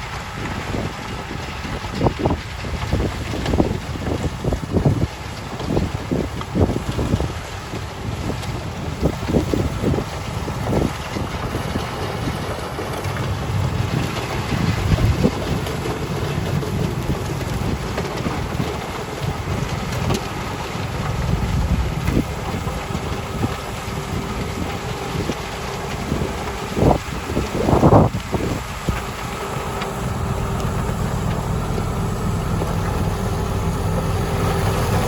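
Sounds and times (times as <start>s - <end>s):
gusty wind buffeting microphone: 0.0s - 35.0s
heavy machinery engines rumbling: 0.0s - 35.0s.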